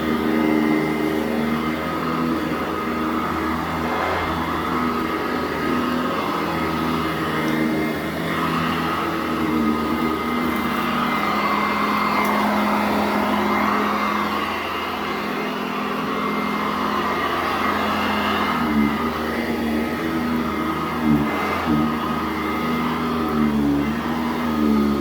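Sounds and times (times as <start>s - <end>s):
vacuum cleaner running over carpet: 0.0s - 25.0s.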